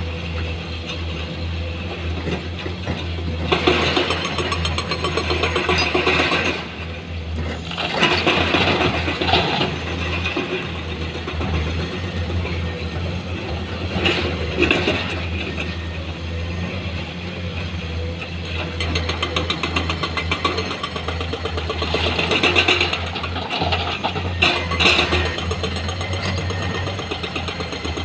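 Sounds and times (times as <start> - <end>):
heavy machinery engine humming: 0.0 - 28.0.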